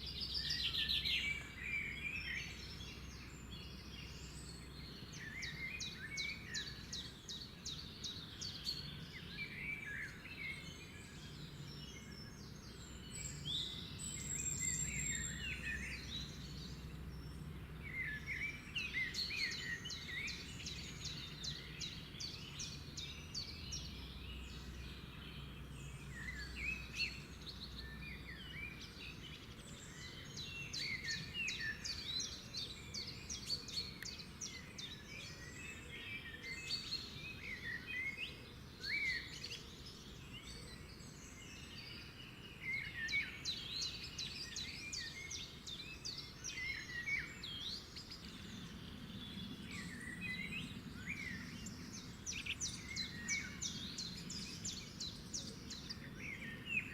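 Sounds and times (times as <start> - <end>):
birds singing and chirping: 0.0 - 56.9.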